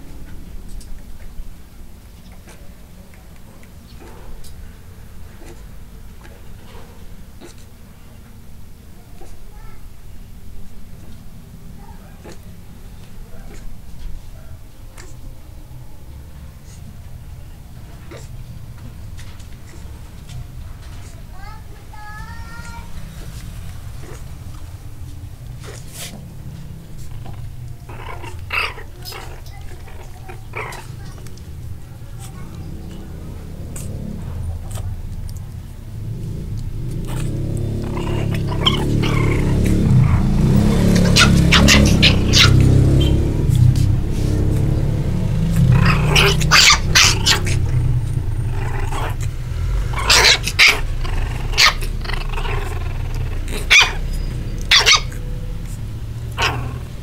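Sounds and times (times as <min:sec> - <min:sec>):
puppies growling and yipping: 0:00.0 - 0:09.6, 0:10.6 - 0:57.0
steady low hum: 0:00.0 - 0:57.0.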